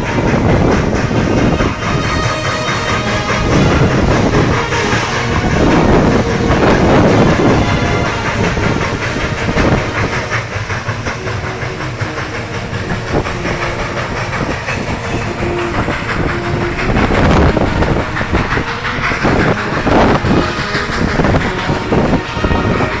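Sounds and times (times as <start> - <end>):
hiss: 0.0 - 23.0
train rumbling along rails: 0.0 - 23.0.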